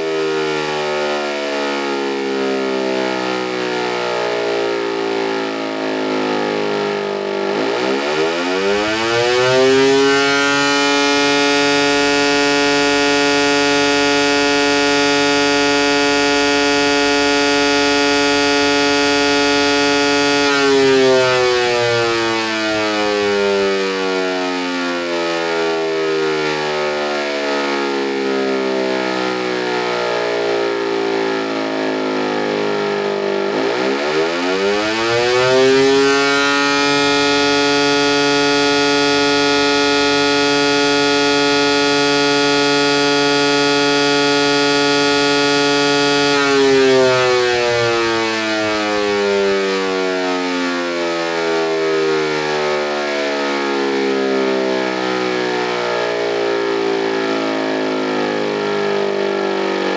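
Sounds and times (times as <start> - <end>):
electric motor siren wailing: 0.0 - 59.9.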